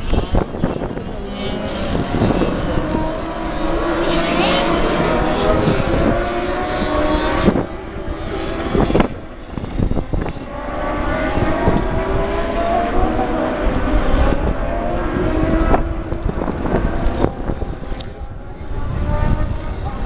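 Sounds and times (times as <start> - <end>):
racing motorcycle engines: 0.0 - 20.0
wind rumbling on microphone: 0.0 - 20.0.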